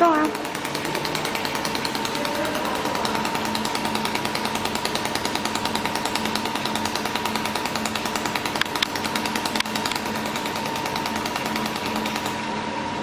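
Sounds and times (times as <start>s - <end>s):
laser welder pulse clicks: 0.0s - 12.6s.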